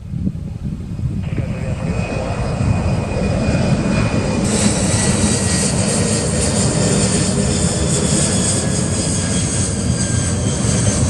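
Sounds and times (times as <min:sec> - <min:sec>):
jet engine rumble: 0:00.0 - 0:11.0
high jet whine: 0:00.5 - 0:11.0.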